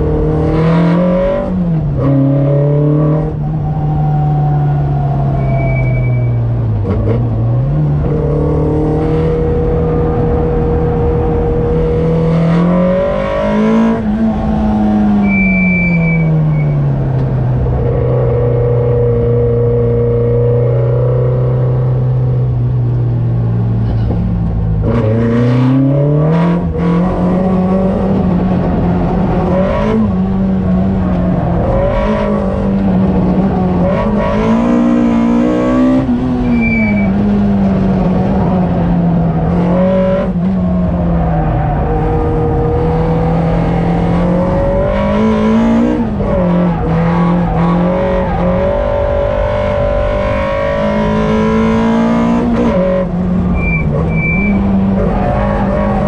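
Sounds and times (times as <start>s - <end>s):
car engine accelerating: 0.0s - 56.0s
road and tyre noise: 0.0s - 56.0s.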